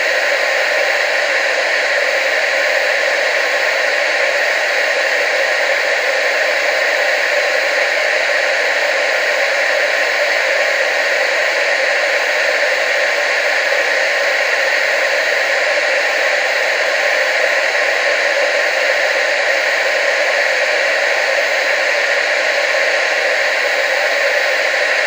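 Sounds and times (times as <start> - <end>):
tv static hiss: 0.0 - 25.0.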